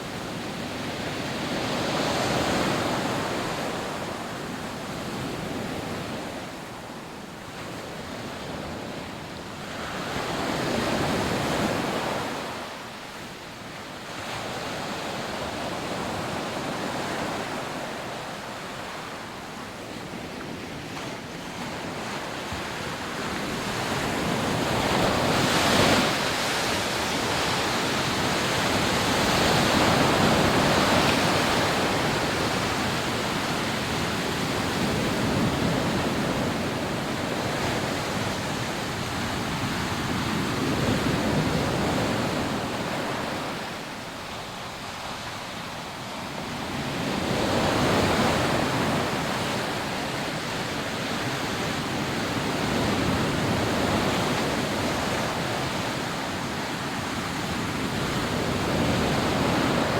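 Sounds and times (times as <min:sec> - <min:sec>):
surf breaking on a beach: 0:00.0 - 0:59.9.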